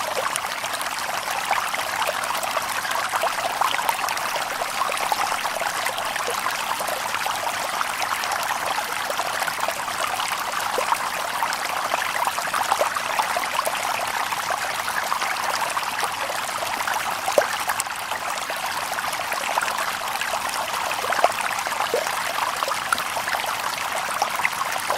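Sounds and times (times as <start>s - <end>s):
stream babbling over stones: 0.0s - 24.9s.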